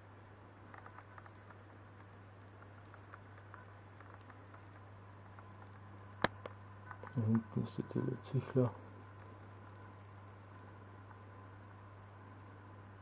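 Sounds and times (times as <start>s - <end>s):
low aquarium hum: 0.0s - 13.0s.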